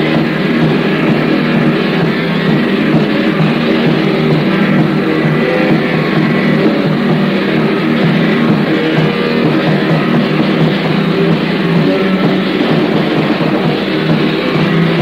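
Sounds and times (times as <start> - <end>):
distorted electric guitars: 0.0 - 15.0
drum kit playing: 0.0 - 15.0.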